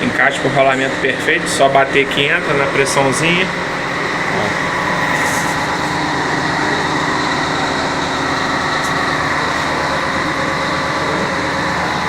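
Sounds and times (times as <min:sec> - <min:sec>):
lathe machine drone with whine: 0:00.0 - 0:12.0.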